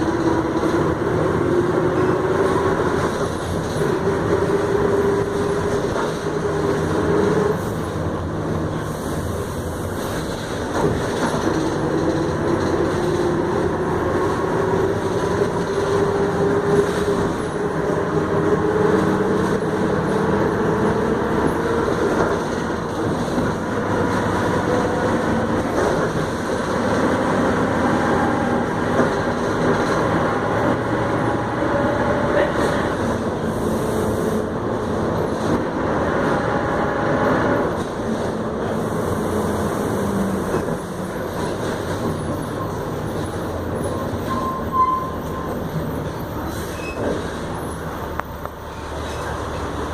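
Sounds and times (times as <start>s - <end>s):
bus diesel engine running: 0.0s - 49.9s.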